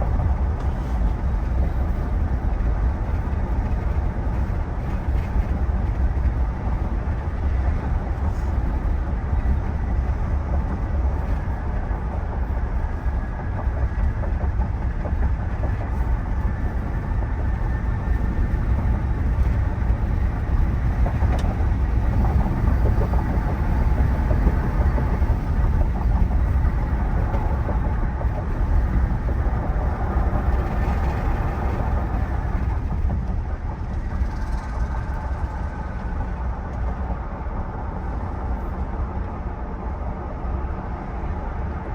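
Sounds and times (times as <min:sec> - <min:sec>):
wind rush: 0:00.0 - 0:41.9.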